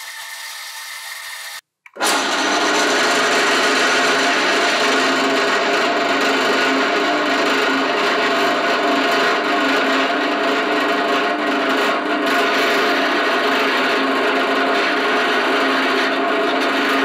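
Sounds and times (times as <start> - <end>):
lathe drilling into metal: 0.0 - 17.0
power drill boring into metal: 0.0 - 17.0.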